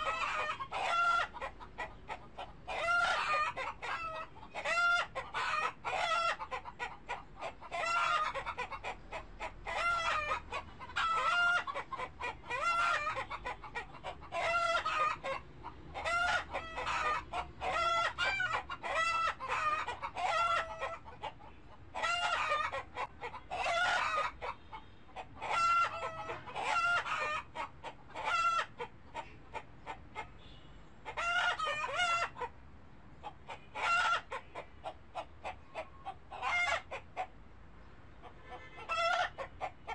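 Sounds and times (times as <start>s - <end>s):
chickens calling: 0.0s - 32.6s, 33.2s - 39.9s.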